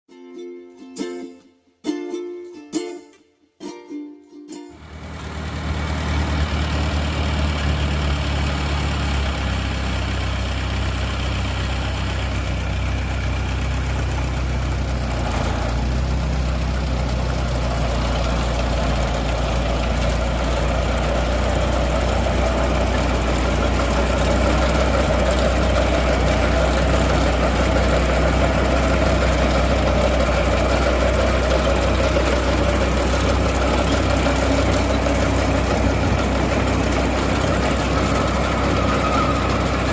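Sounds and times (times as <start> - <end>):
engine idling: 4.8 - 39.9.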